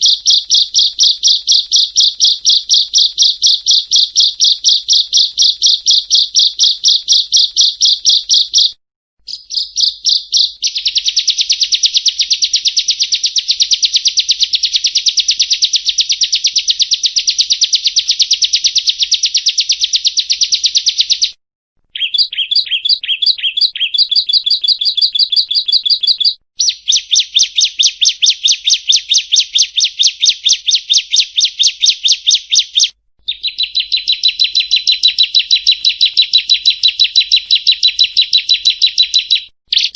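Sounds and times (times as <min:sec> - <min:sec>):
bird singing rapid high chips: 0:00.0 - 0:39.9.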